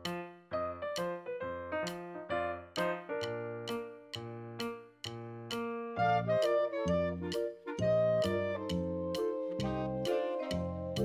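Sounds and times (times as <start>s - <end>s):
light keyboard tune: 0.0s - 11.0s.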